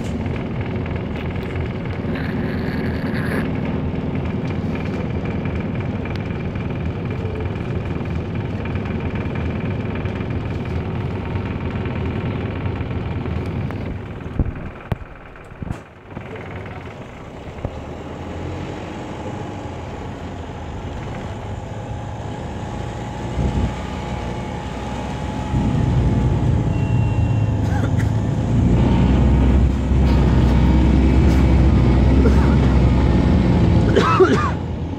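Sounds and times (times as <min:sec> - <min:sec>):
bus diesel engine: 0:00.0 - 0:34.9.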